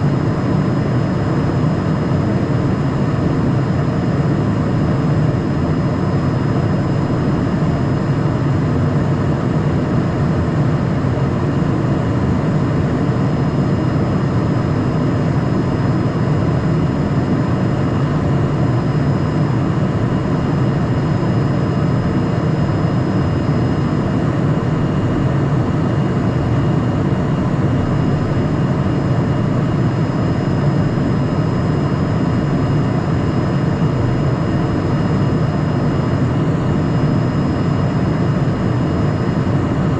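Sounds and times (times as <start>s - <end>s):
jet engine and airflow rush: 0.0s - 39.9s.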